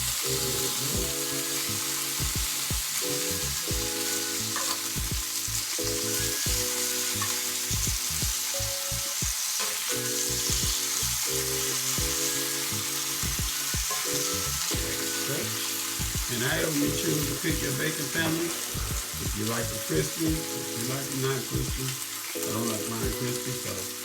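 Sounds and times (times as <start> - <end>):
bacon sizzling in a pan: 0.0 - 24.0.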